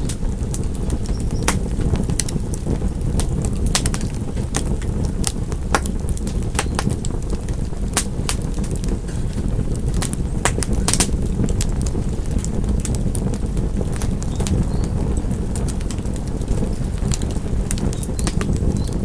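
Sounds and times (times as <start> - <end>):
low fire rumble: 0.0 - 19.0
wood fire pops and snaps: 0.0 - 19.0.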